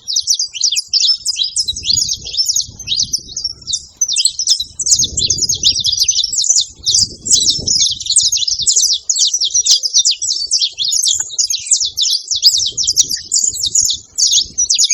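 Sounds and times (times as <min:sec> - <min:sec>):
finch chirping: 0:00.0 - 0:14.9.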